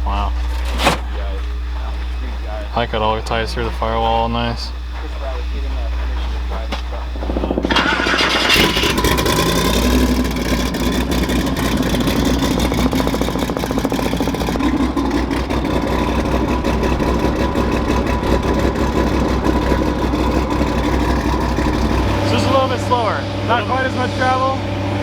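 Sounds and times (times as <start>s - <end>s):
truck engine starting and idling: 0.0s - 25.0s.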